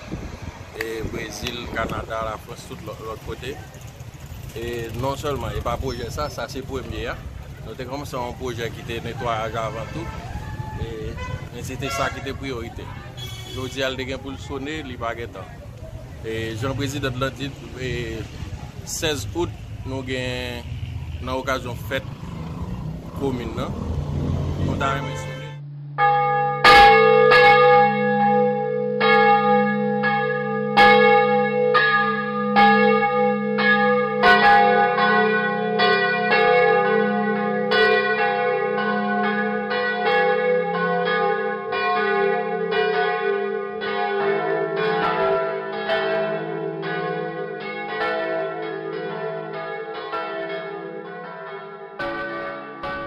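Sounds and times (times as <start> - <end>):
church bells pealing: 0.8 - 53.0.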